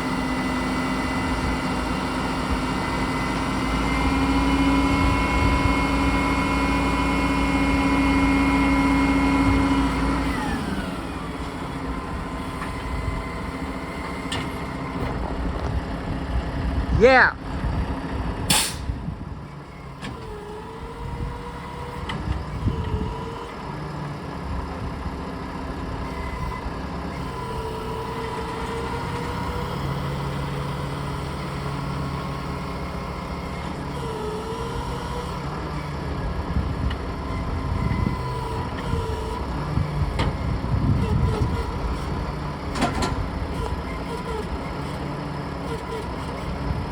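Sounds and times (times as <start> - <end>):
truck engine running: 0.0 - 46.9.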